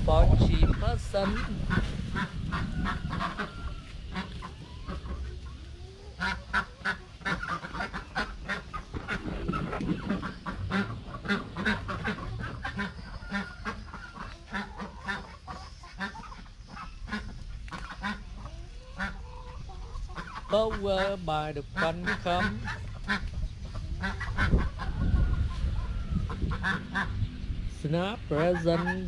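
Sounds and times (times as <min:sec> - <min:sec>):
ducks quacking: 0:00.1 - 0:29.0.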